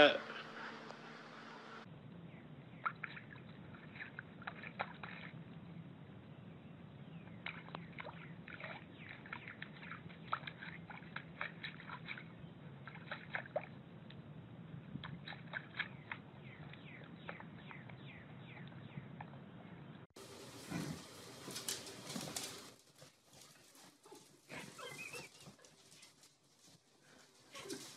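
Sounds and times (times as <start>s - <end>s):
water splashing and lapping: 2.7s - 27.9s.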